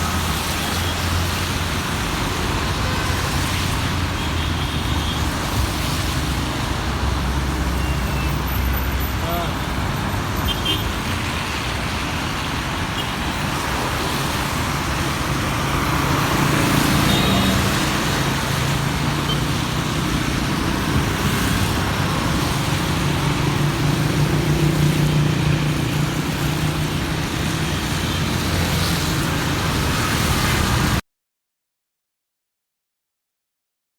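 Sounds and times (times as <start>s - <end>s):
car engines passing: 0.0s - 31.0s
tyres hissing on wet road: 0.0s - 31.0s.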